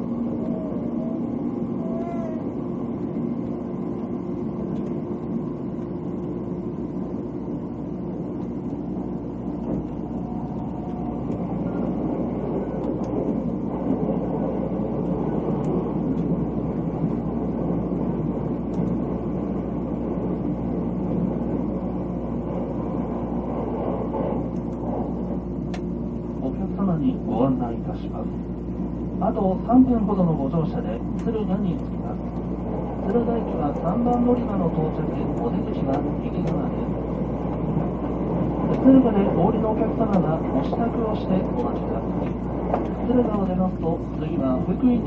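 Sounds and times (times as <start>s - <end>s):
low hum: 0.0s - 45.0s
train wheels rumbling on rail: 0.0s - 45.0s.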